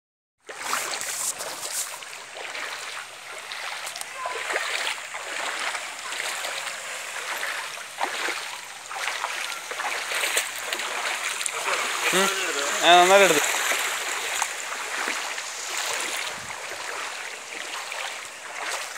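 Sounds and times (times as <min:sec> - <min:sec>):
floodwater running: 0:00.4 - 0:18.9
water splashing: 0:00.4 - 0:18.9.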